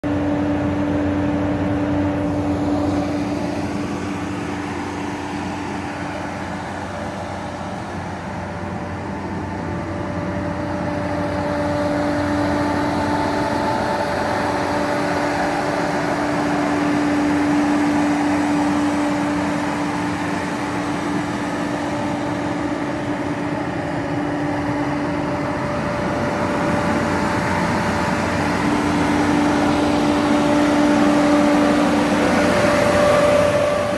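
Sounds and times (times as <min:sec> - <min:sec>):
constant whine: 0:00.0 - 0:33.9
street sweeper mechanical hum: 0:00.0 - 0:33.9.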